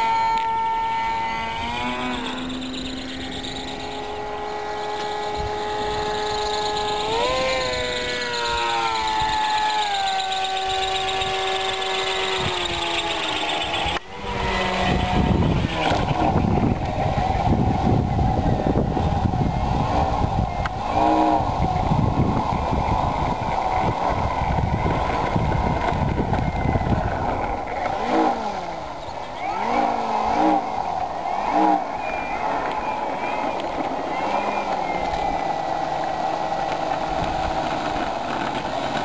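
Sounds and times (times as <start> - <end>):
electric motor and propeller whining: 0.0 - 39.0.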